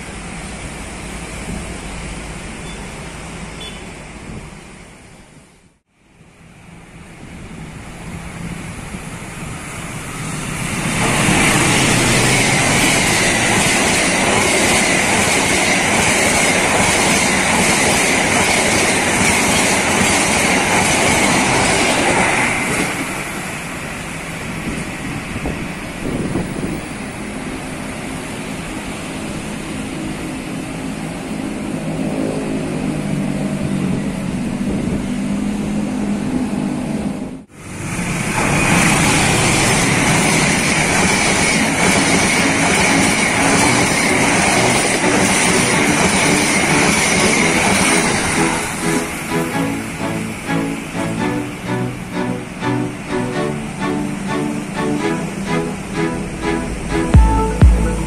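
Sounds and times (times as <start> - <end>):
train wheels rushing on rail: 0.0 - 5.1, 6.5 - 58.0.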